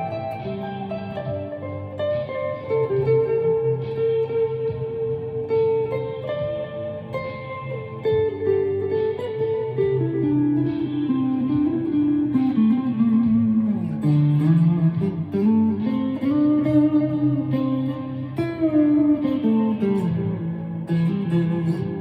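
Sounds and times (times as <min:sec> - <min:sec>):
electric guitar ambient melody: 0:00.0 - 0:22.0.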